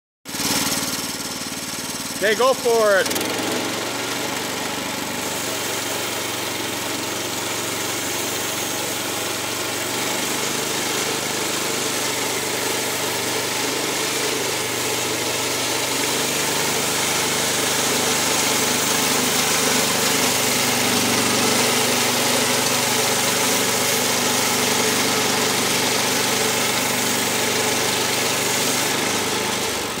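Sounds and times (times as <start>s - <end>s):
gas engine running under load: 0.3s - 30.0s.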